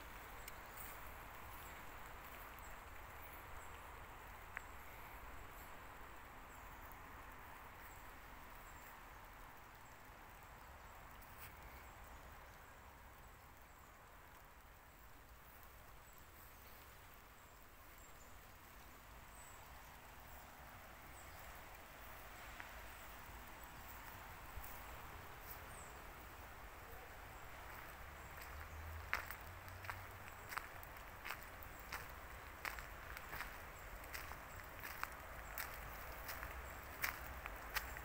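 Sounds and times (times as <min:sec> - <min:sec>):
soft outdoor hiss: 0:00.0 - 0:38.0.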